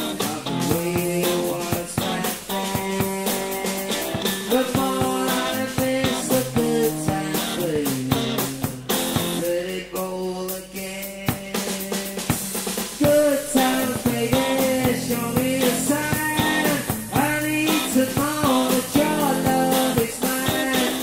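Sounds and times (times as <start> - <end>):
rock band playing: 0.0 - 9.6, 11.3 - 21.0
drum kit: 0.0 - 21.0.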